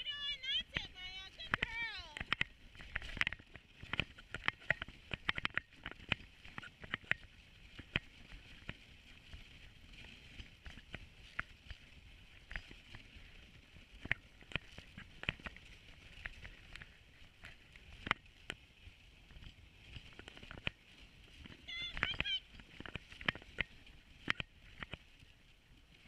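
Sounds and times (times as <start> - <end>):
sled clicking and knocking: 0.0 - 25.1.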